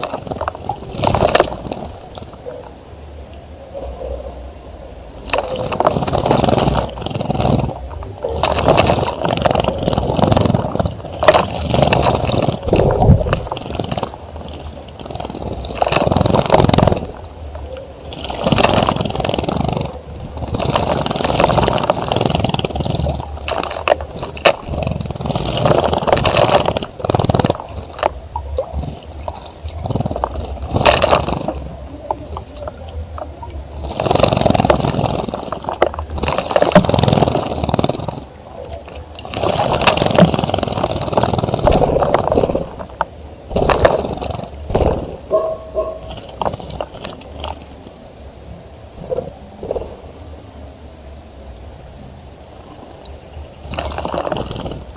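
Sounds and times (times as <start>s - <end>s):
wings fluttering: 0.0s - 2.6s, 5.2s - 48.0s.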